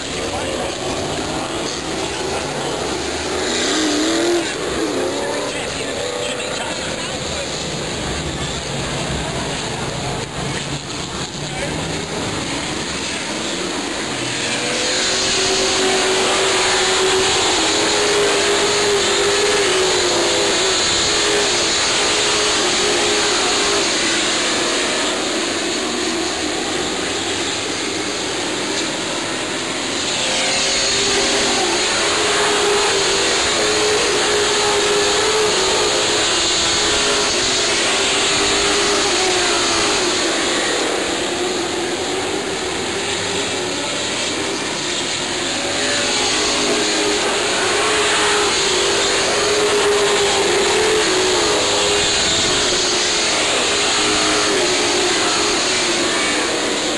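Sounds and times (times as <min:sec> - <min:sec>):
stock car engines racing: 0:00.0 - 0:56.9.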